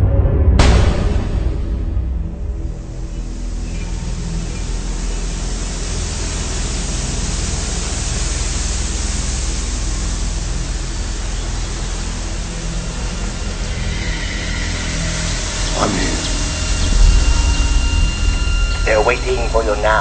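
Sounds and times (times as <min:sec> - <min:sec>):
boat engine hum: 0:02.5 - 0:20.0.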